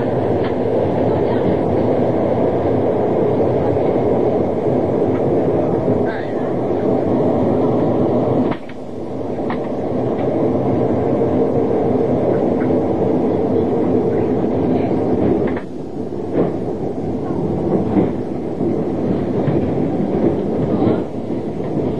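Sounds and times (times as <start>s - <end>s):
train rumbling on rails: 0.0s - 21.9s.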